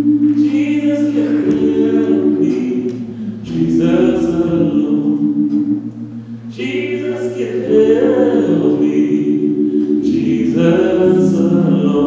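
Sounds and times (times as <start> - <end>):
group singing a gospel hymn: 0.0 - 12.0.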